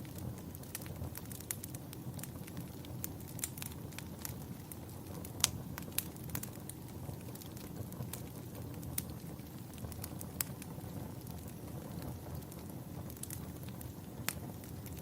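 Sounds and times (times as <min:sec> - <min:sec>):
campfire crackling: 0:00.0 - 0:15.0
campfire low rumble: 0:00.0 - 0:15.0
sharp pops of burning wood: 0:00.1 - 0:15.0.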